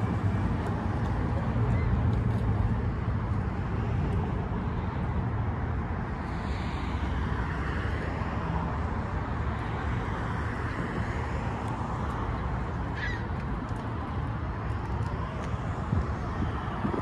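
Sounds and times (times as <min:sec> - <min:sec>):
road traffic rumbling hiss: 0:00.0 - 0:17.0.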